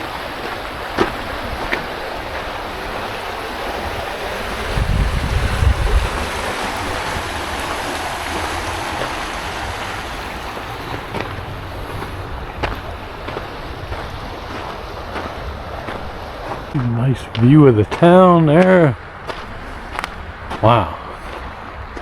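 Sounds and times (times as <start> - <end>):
stream water rushing: 0.0 - 22.0
wind buffeting microphone: 0.0 - 22.0.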